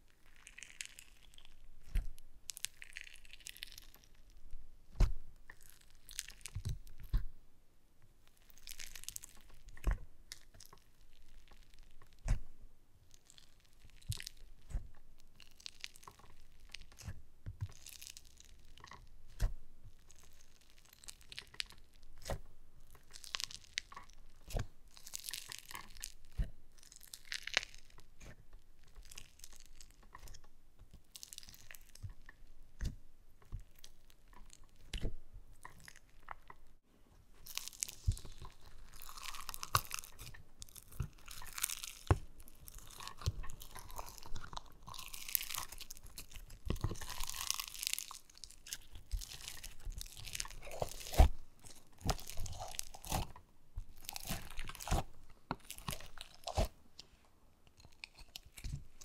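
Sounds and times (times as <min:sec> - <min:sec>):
slime crackling and popping: 0:00.0 - 0:07.4, 0:08.3 - 0:36.8, 0:37.4 - 0:56.8, 0:57.8 - 0:59.0.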